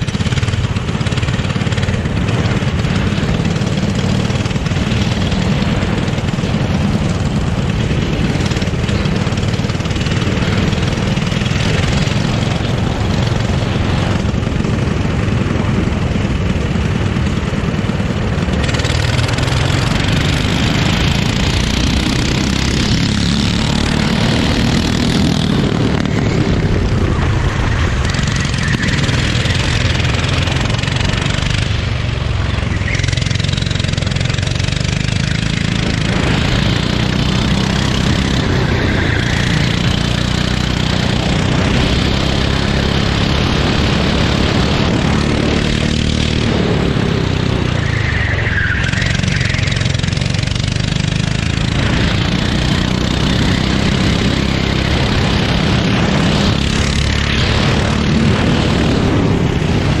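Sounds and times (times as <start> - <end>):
go-kart engine revving: 0.0 - 60.0.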